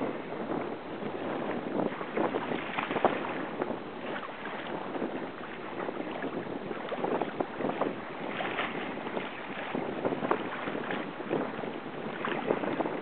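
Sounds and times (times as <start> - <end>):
water splashing against hull: 0.0 - 13.0
wind noise on microphone: 0.0 - 13.0.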